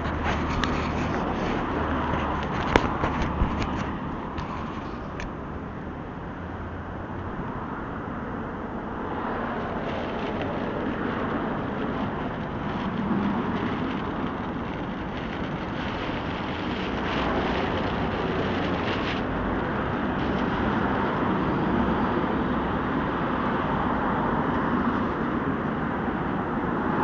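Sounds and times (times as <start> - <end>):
road traffic passing cars: 0.0 - 27.0.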